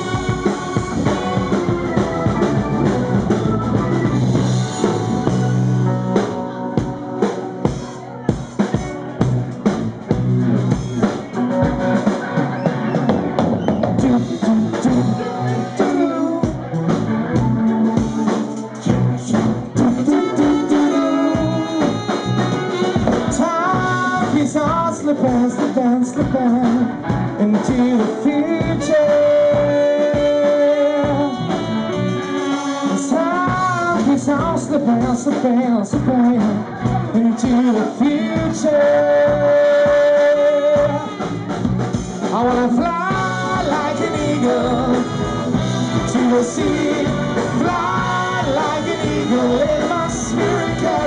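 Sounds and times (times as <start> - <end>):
saxophone: 0.0 - 9.2, 10.3 - 25.0, 28.4 - 34.2, 38.6 - 51.0
electric keyboard: 0.0 - 34.8, 36.1 - 51.0
drum kit: 0.0 - 51.0
electric guitar: 0.0 - 51.0
live band playing: 0.0 - 51.0.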